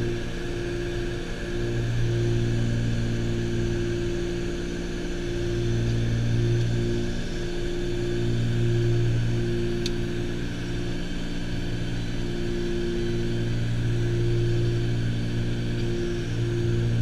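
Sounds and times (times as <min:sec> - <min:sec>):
propeller engines droning: 0:00.0 - 0:17.0.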